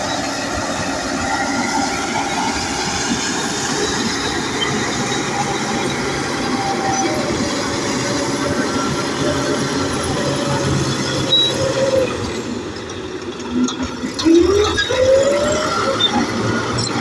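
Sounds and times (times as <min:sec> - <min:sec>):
bulldozer engine running: 0:00.0 - 0:17.0
steel tracks clanking and squealing: 0:00.0 - 0:17.0.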